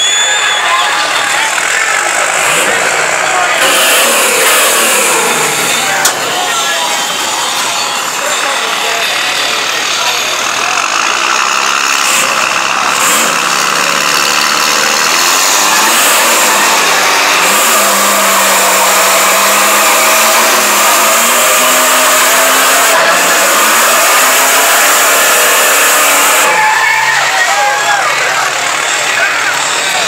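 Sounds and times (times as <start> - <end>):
truck engines revving hard: 0.0 - 30.0.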